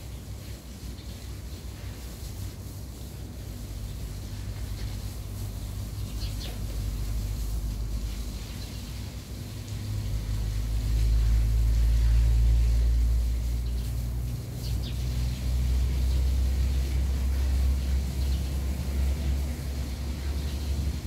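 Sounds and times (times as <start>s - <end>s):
low engine rumble: 3.0s - 21.0s.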